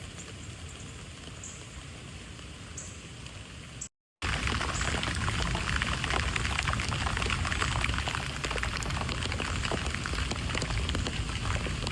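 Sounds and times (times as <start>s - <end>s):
rain falling: 0.0s - 11.9s.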